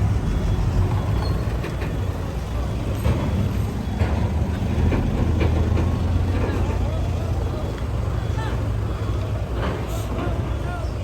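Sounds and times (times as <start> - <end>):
loud low engine rumble: 0.0 - 11.0.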